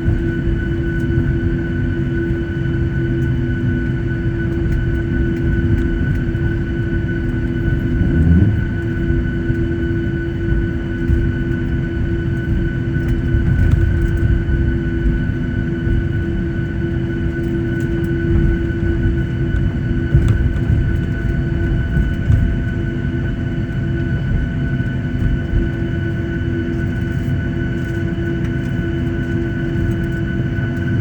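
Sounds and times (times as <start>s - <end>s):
jet engines idling whine: 0.0s - 31.0s
low cabin rumble: 0.0s - 31.0s.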